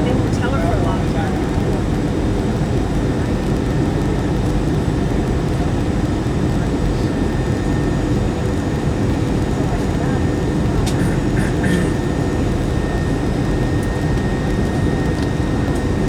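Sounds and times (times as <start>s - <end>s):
jet engines and airflow rush: 0.0s - 16.0s.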